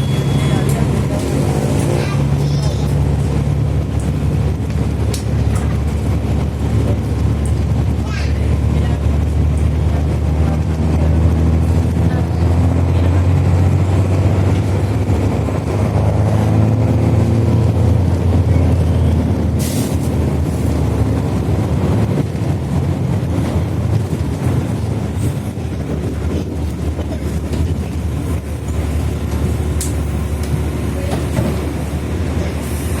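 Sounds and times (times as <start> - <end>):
bus diesel engine pulling uphill: 0.0 - 33.0.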